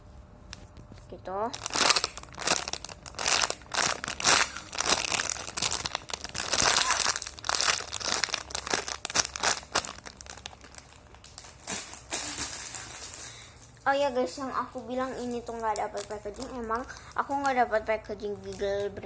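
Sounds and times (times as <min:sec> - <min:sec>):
plastic packaging crinkling: 0:01.4 - 0:13.8, 0:14.7 - 0:19.0.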